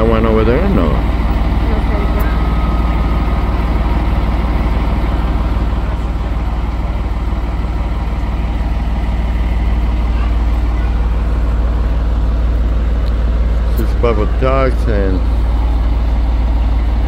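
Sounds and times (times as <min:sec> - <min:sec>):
large vehicle engine idling: 0:00.0 - 0:17.0.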